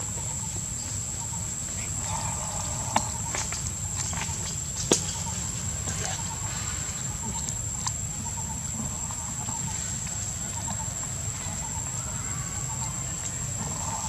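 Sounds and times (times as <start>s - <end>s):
dry leaves and twigs crackling: 1.7s - 14.0s.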